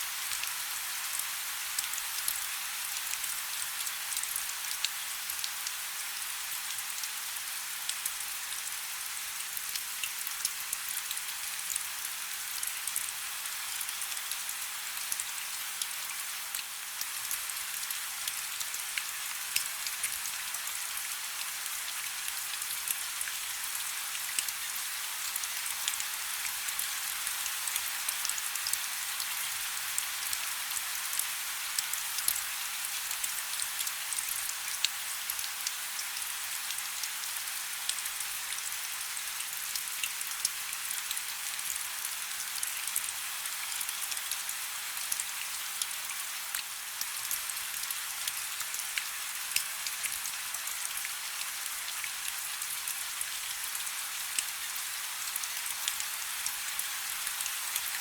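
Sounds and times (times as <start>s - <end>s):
raindrops ticking on a surface: 0.2s - 58.0s.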